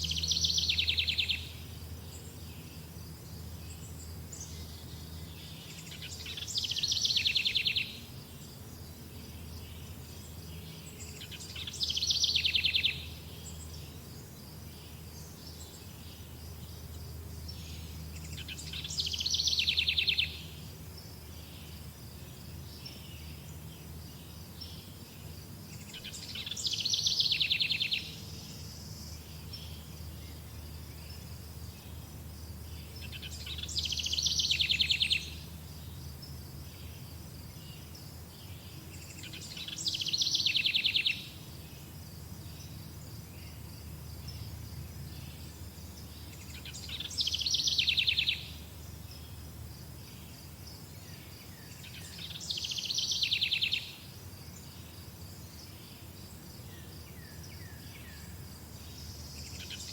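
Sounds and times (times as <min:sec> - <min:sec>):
faint insect drone: 0:00.0 - 0:59.9
songbird trilled song: 0:00.0 - 0:59.9.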